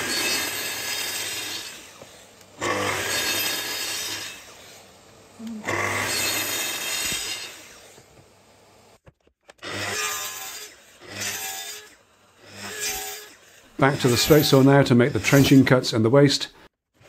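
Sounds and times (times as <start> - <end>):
circular saw cutting plywood: 0.0 - 8.4, 9.6 - 15.9.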